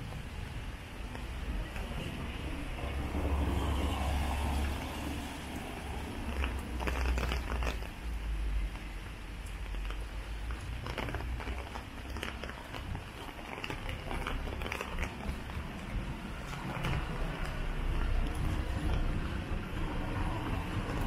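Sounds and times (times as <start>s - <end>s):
rain hissing on street: 0.0s - 21.0s
raindrops tapping: 0.0s - 21.0s.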